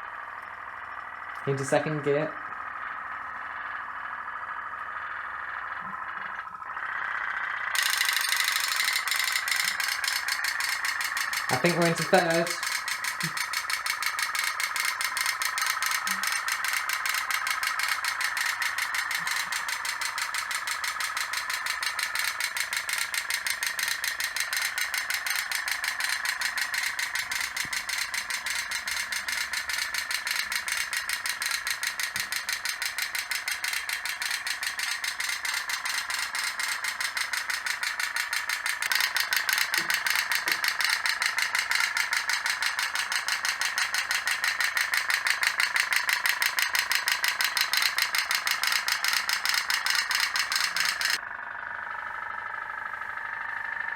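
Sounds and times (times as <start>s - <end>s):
toy steam boats rattling clicks: 0.3s - 51.2s.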